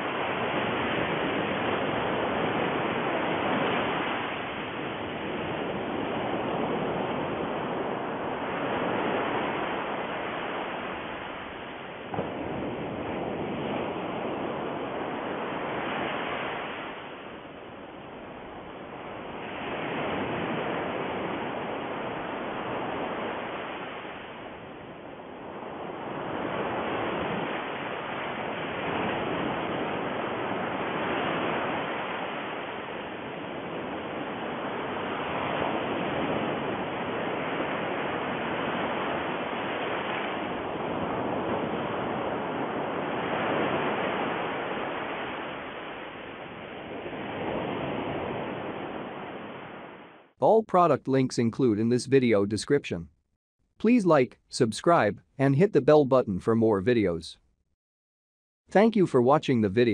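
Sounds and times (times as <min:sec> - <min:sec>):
rushing surf-like noise: 0:00.0 - 0:52.4.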